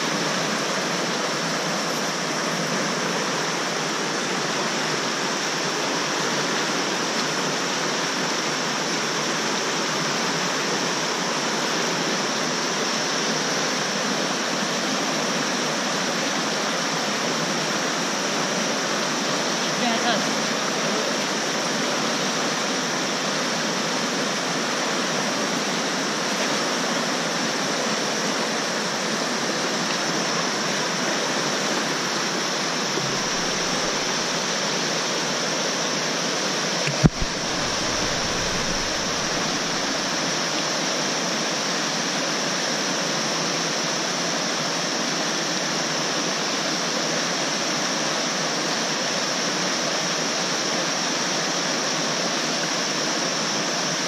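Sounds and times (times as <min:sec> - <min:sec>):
whitewater rushing over rocks: 0:00.0 - 0:54.0.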